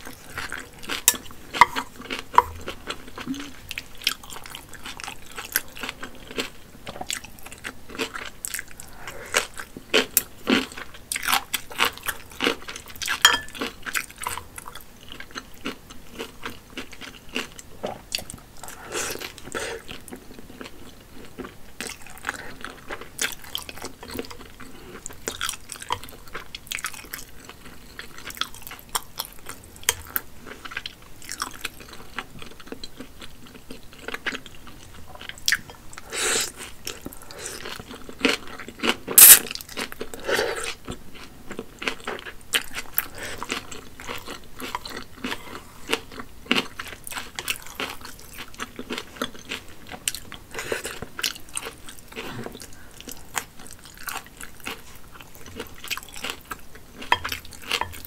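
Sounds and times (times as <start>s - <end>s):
chewing noodles with mouth clicks: 0.0s - 58.0s.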